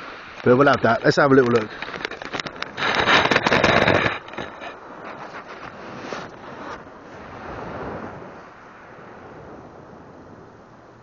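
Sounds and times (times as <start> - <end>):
surf washing on shore: 0.0 - 11.0
wind on microphone: 0.0 - 11.0.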